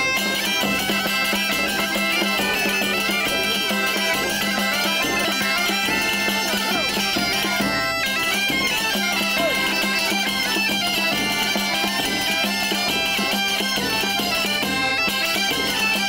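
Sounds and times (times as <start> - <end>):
accordion: 0.0 - 16.0
bagpipe folk tune: 0.0 - 16.0.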